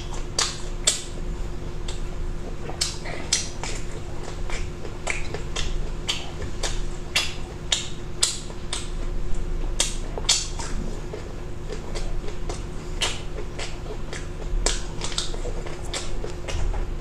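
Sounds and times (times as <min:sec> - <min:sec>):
person chewing with mouth open: 0:00.0 - 0:17.0.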